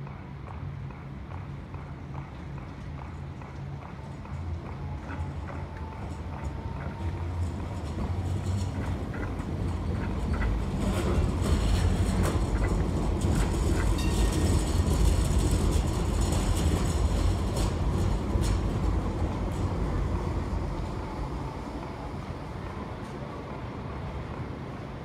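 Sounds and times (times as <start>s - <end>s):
tram wheels rumbling on rail: 0.0s - 25.0s.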